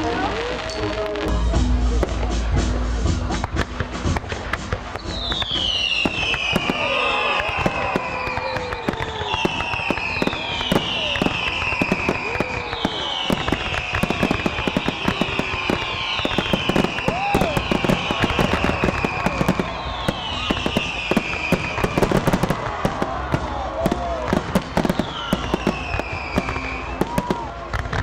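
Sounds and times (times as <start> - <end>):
fireworks bangs and crackling: 0.0 - 28.0
falling firework whistles: 4.0 - 28.0.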